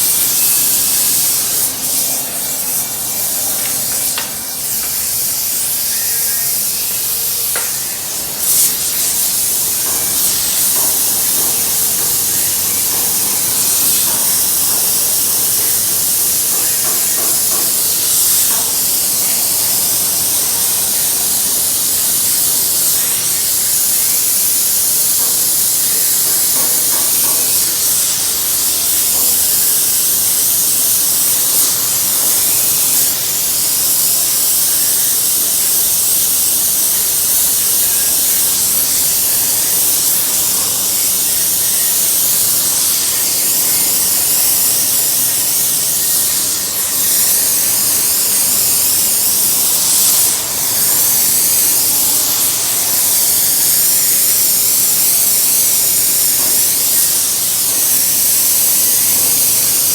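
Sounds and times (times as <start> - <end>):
welding arc hissing on metal: 0.0 - 59.9.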